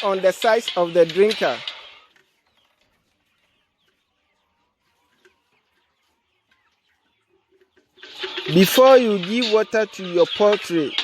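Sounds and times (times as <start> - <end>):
faint chickens clucking: 0.0 - 11.0.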